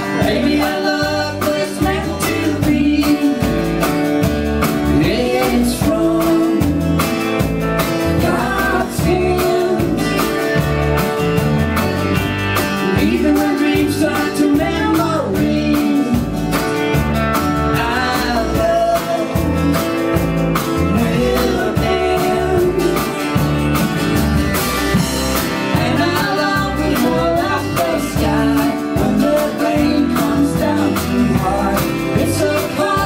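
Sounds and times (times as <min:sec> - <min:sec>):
bending electric guitar lead: 0:00.0 - 0:33.0
country blues band playing: 0:00.0 - 0:33.0.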